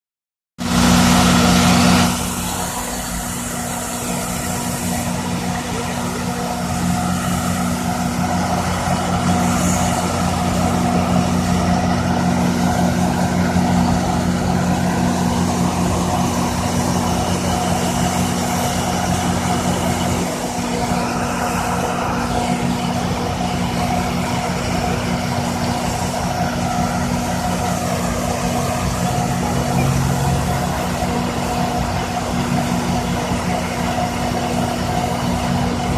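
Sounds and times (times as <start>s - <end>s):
idling vehicle engines: 0.6s - 35.9s
rushing noise: 0.6s - 35.9s
hiss: 0.9s - 35.9s.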